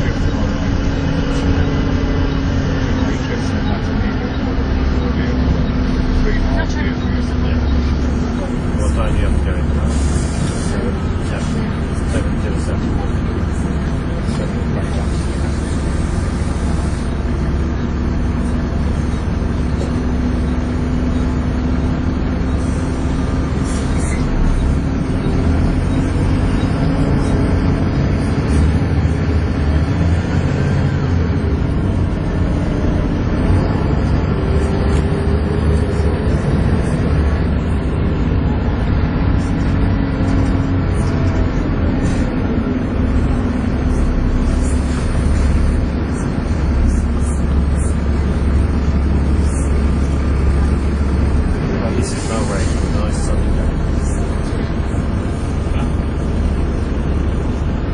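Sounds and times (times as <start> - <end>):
bus engine whining: 0.0 - 57.9.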